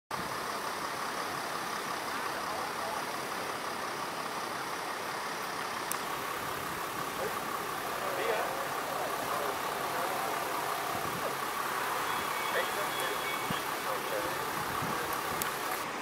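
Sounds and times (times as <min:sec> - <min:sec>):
vehicles idling: 0:00.1 - 0:16.0.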